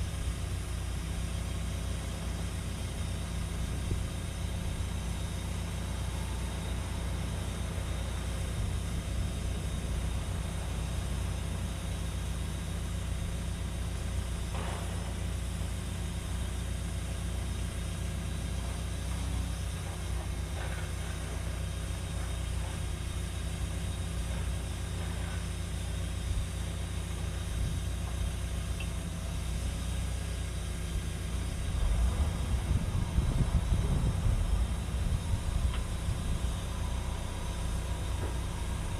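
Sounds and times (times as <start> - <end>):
excavator diesel engine idling: 0.0 - 38.9.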